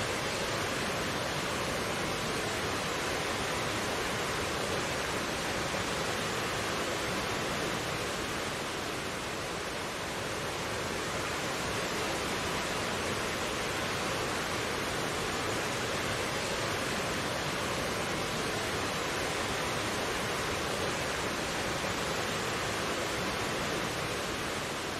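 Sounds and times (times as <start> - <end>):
stream flowing: 0.0 - 24.9.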